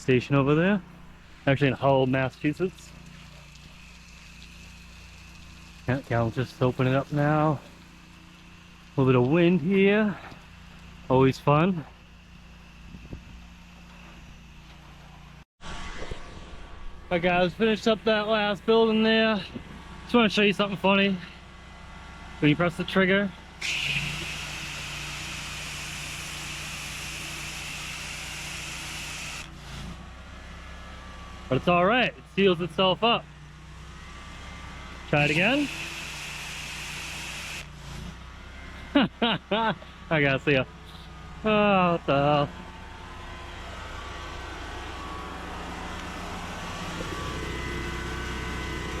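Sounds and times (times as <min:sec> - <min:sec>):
engine drone: 0:00.0 - 0:49.0.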